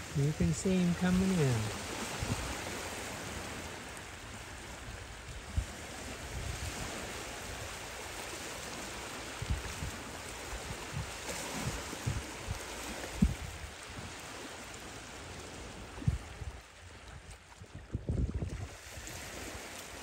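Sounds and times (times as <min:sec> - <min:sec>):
small waves lapping on stones: 0:00.1 - 0:20.0.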